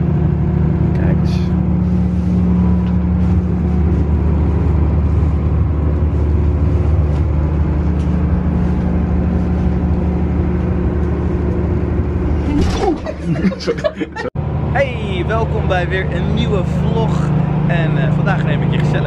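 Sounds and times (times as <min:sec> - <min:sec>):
diesel generator droning: 0:00.0 - 0:19.0.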